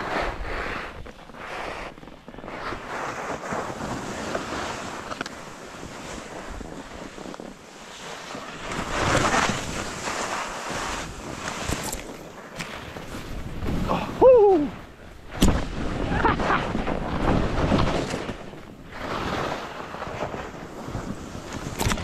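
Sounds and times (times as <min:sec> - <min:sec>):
skis scraping over snow: 0:00.0 - 0:22.0
wind on microphone: 0:00.0 - 0:22.0.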